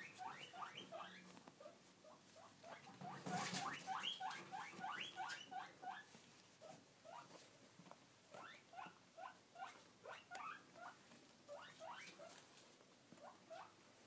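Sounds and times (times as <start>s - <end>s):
animal squeaking: 0.0s - 7.3s, 8.4s - 12.4s.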